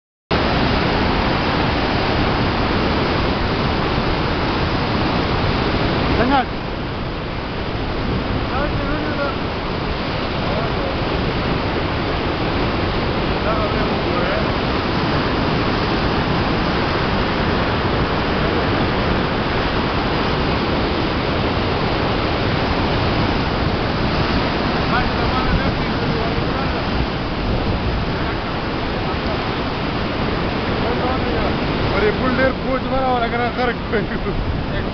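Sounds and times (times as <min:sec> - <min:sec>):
rapids rushing over boulders: 0:00.3 - 0:34.9.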